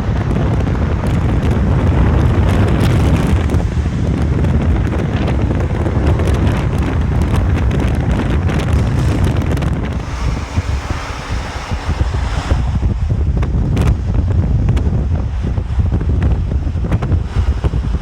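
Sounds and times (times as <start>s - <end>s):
car exhaust crackling and popping: 0.0s - 18.0s
wind buffeting microphone: 0.0s - 18.0s.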